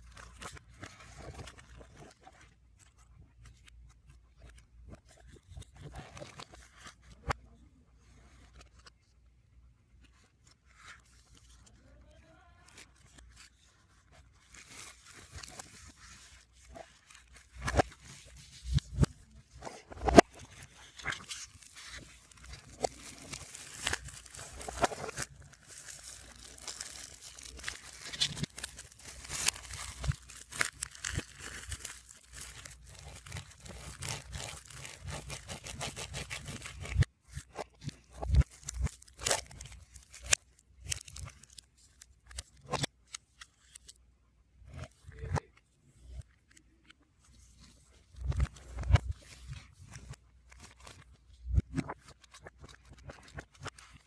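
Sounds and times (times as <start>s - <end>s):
plastic crinkling and paper rustling: 0.0s - 7.5s, 10.0s - 44.0s, 46.3s - 54.0s.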